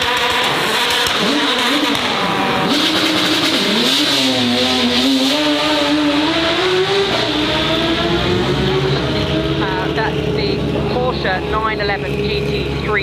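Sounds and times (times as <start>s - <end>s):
racing car engine at full throttle: 0.0s - 13.0s.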